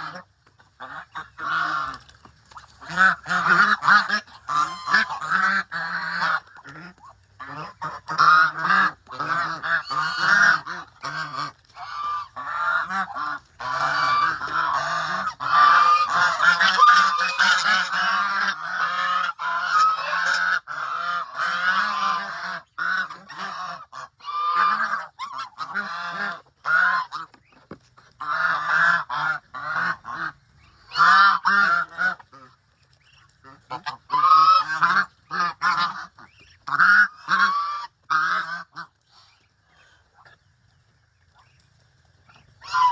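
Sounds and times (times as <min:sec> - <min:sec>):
geese honking: 0:00.0 - 0:40.5, 0:41.1 - 0:42.9.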